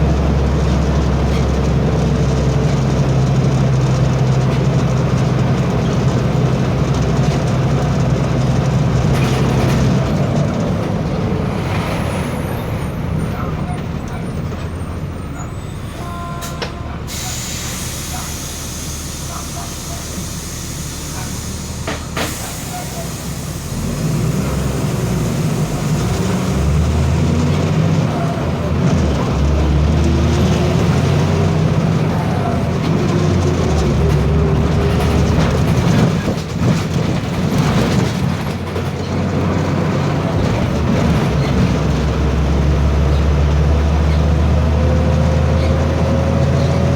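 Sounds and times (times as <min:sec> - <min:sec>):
bus diesel engine droning: 0:00.0 - 0:46.9.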